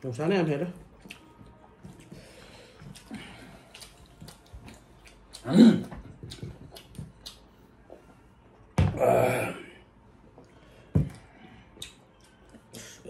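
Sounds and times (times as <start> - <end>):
people chewing and smacking: 0.8 - 9.1, 10.1 - 13.0.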